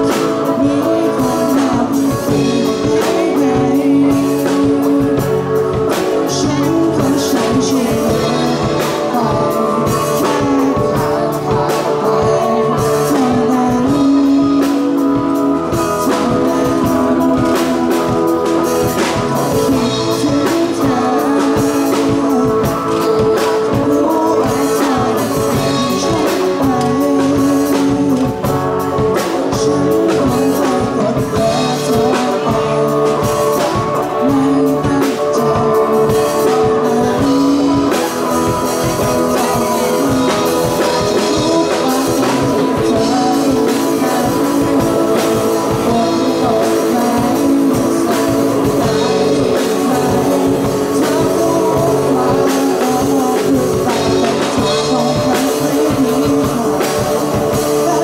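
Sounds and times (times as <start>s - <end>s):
man singing lead vocal: 0.0s - 58.0s
rock band playing: 0.0s - 58.0s.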